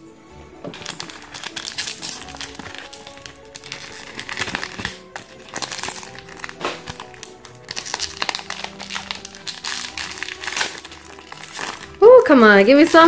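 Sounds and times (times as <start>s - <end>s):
background music: 0.0s - 13.0s
foil wrapper crinkling: 0.7s - 13.0s.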